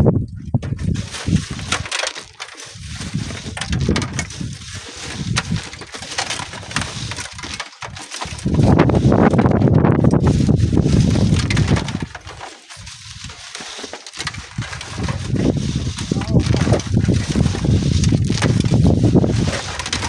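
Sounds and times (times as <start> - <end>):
wind buffeting microphone: 0.0 - 1.9, 2.7 - 7.6, 8.2 - 13.4, 14.2 - 20.0
small clicks and crackles: 0.6 - 20.0.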